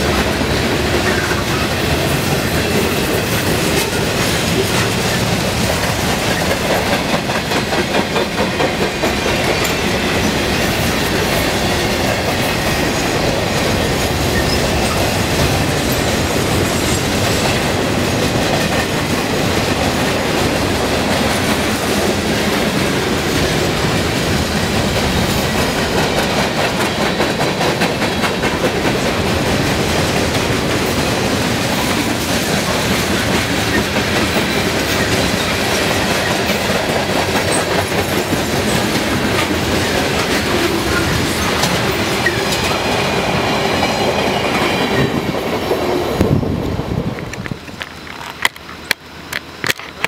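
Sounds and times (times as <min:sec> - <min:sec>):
wheels clacking over rail joints: 0:00.0 - 0:46.4
train wheels rumbling on rails: 0:00.0 - 0:50.0.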